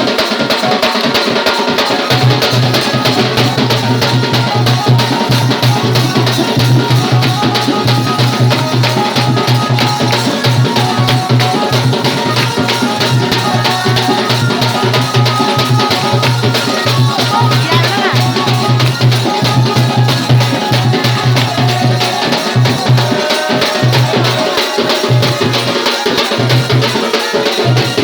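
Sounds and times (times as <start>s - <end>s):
fast dense drumming: 0.0s - 28.0s
rattling percussion: 0.0s - 28.0s.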